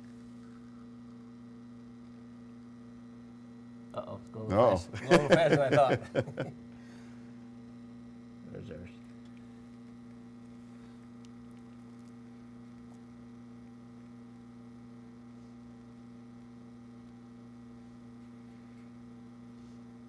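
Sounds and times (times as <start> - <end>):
espresso machine pump humming: 0.0 - 20.0.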